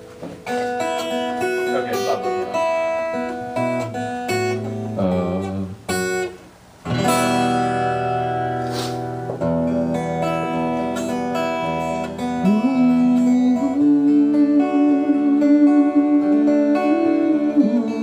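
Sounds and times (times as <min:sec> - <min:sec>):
guitar chords strummed: 0:00.0 - 0:18.0.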